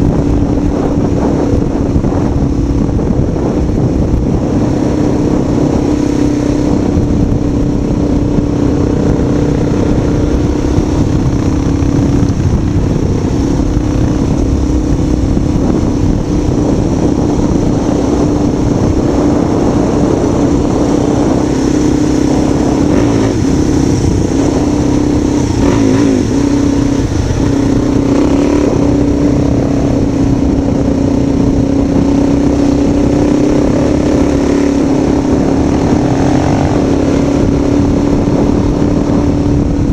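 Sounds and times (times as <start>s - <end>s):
vehicle engine running: 0.0s - 39.9s
wind and road noise: 0.0s - 39.9s.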